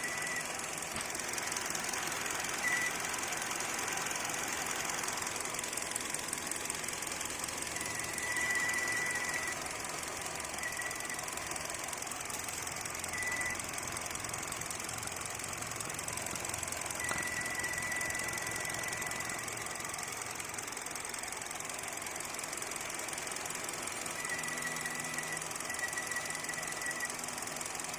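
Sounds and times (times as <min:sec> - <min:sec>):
car engine running: 0:00.0 - 0:27.9.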